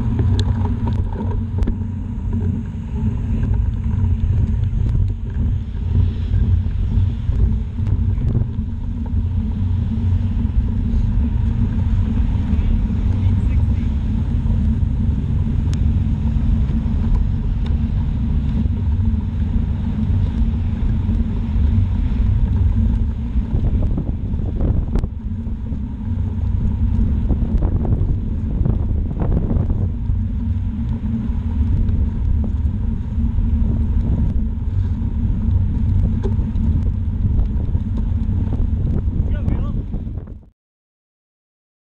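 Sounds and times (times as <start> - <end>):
road noise from bicycle: 0.0 - 40.5
wind noise on microphone: 0.0 - 40.5.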